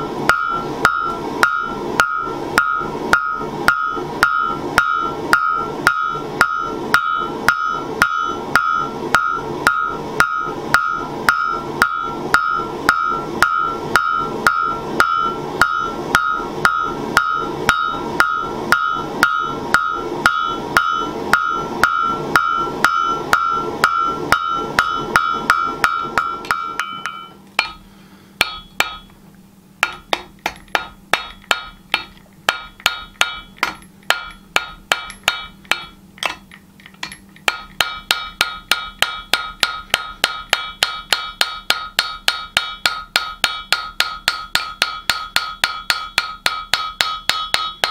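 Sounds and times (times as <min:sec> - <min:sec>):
hammer striking steel on anvil: 0:00.0 - 0:29.1, 0:29.8 - 0:47.9.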